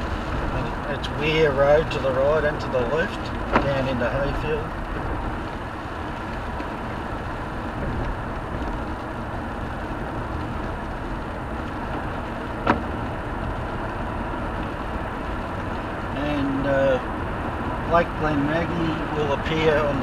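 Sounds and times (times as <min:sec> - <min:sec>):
car tyre and engine noise: 0:00.0 - 0:20.0.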